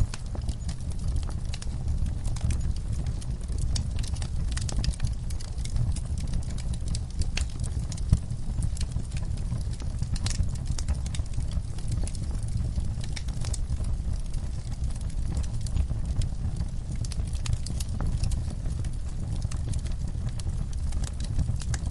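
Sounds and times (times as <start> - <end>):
low rumble of flames: 0.0 - 21.9
wood fire popping and snapping: 0.0 - 21.9.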